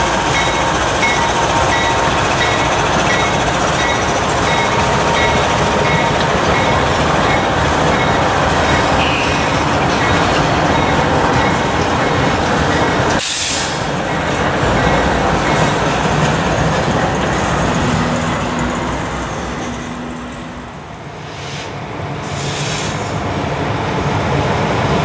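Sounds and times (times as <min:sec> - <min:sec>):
freight train rumbling and rattling: 0:00.0 - 0:25.0.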